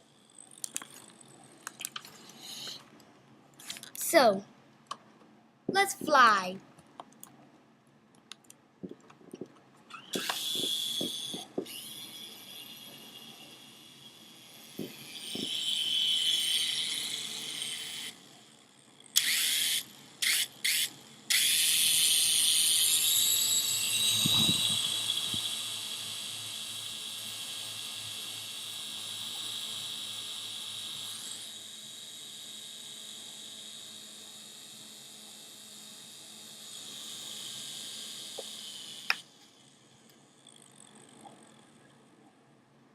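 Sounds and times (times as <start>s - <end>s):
toy helicopter motors whining: 0.0s - 2.9s, 9.9s - 41.9s.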